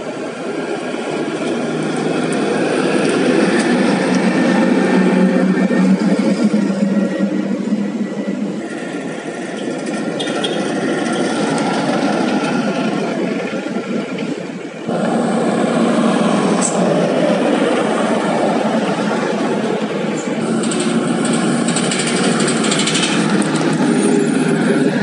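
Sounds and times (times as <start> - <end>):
dump truck engine: 0.0 - 25.0.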